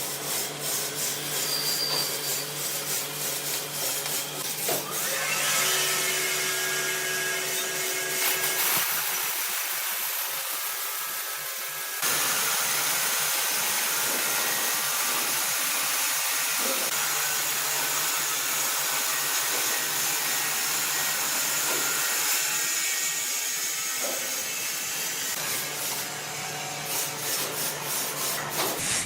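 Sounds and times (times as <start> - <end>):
woodworking machine cutting wood: 0.2 - 28.9.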